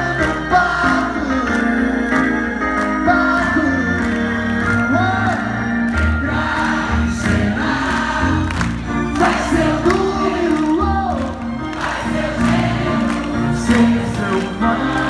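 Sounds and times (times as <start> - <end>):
crowd singing along: 0.0 - 15.0
symphony orchestra playing: 0.0 - 15.0.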